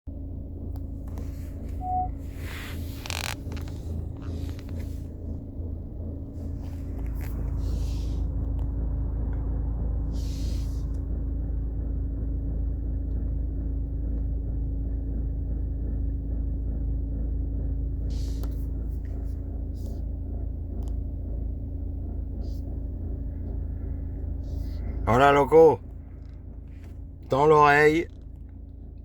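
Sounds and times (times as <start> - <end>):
car engine juddering: 0.1 - 29.0.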